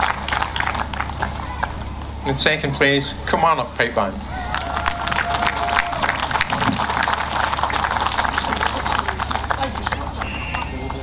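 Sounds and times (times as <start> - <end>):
crowd applauding: 0.0 - 2.1, 4.3 - 11.0.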